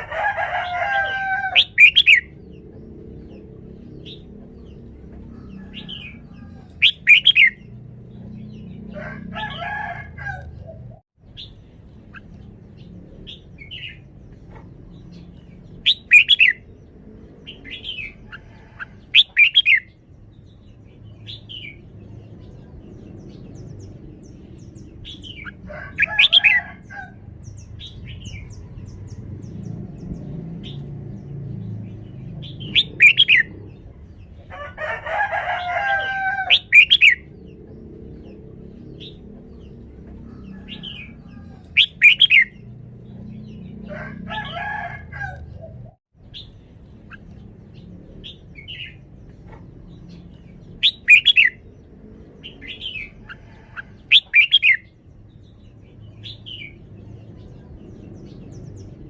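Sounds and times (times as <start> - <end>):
bird singing warbled phrases: 0.0 - 59.0.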